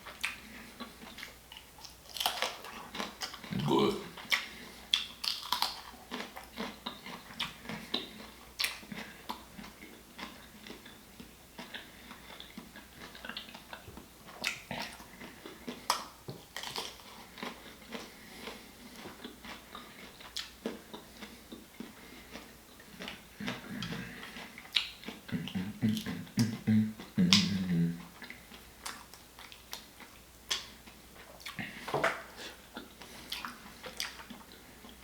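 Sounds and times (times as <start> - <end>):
wet chewing and lip-smacking: 0.0 - 35.0.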